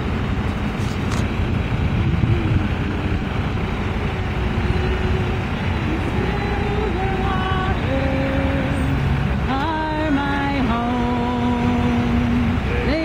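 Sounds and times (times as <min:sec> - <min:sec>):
truck engines rumbling: 0:00.0 - 0:13.0.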